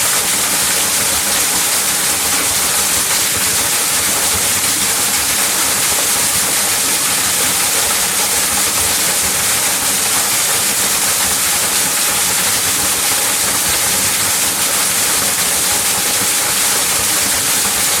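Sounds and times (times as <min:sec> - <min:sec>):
waterfall crashing into pool: 0:00.0 - 0:18.0.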